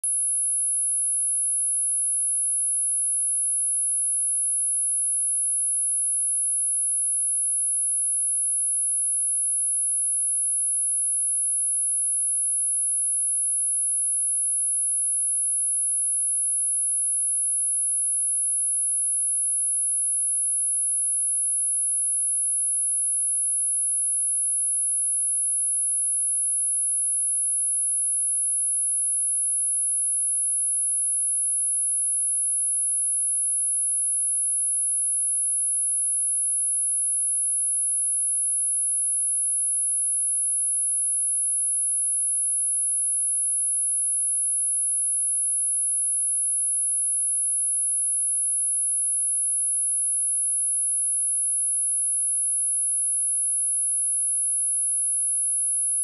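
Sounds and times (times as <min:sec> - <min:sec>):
high-pitched sine test tone: 0:00.0 - 0:56.0.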